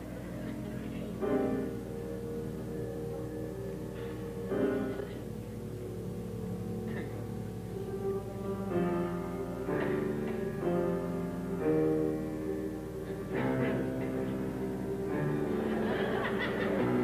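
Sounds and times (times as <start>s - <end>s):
held musical chords: 0.0s - 17.0s.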